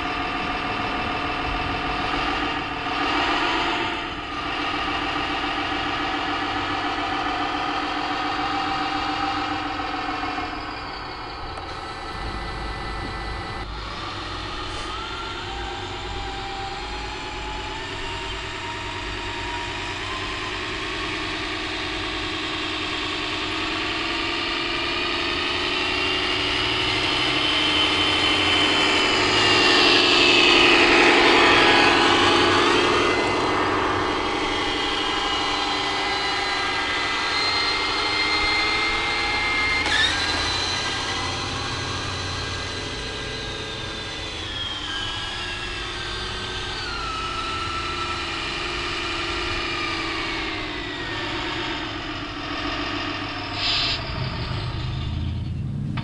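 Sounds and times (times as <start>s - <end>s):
toy truck motor drone: 0.0s - 56.0s.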